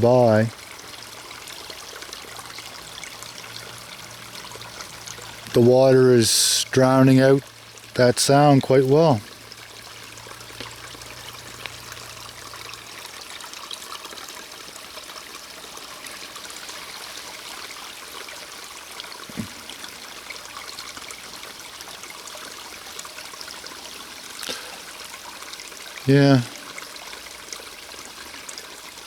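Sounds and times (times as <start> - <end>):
stream splashing over rocks: 0.0 - 29.0.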